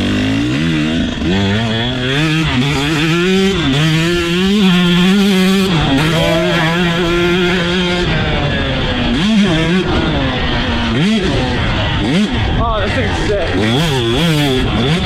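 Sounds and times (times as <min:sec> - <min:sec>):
two-stroke motorbike engine revving: 0:00.0 - 0:15.0.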